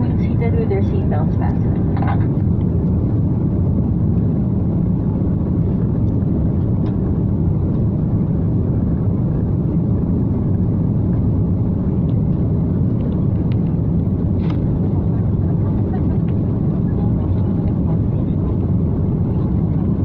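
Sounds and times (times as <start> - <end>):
jet cabin engine noise: 0.0 - 20.0.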